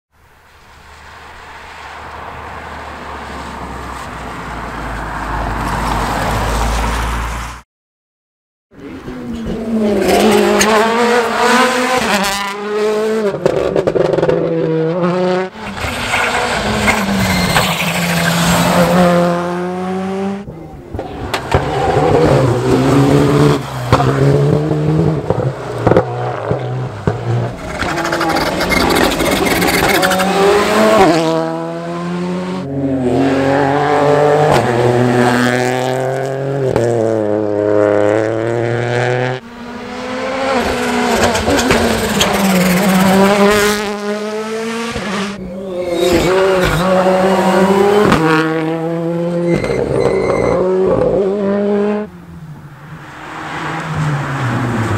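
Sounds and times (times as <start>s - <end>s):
cars passing: 0.3s - 7.6s, 8.8s - 54.9s
rally car engines accelerating: 8.8s - 54.9s.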